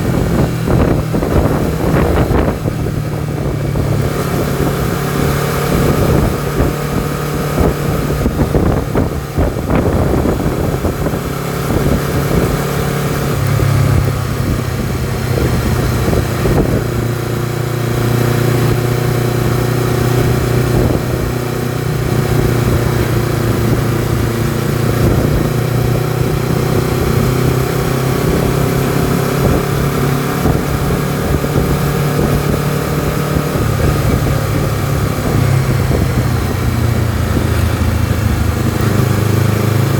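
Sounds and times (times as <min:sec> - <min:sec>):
motorcycle engine and exhaust: 0:00.0 - 0:39.9
wind on microphone: 0:00.0 - 0:39.9.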